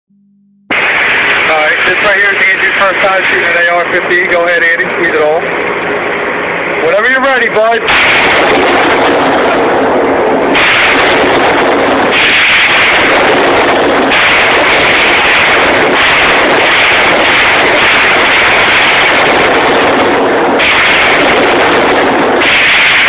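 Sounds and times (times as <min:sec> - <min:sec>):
distorted rifle shots: 0:00.7 - 0:05.9, 0:07.7 - 0:23.0.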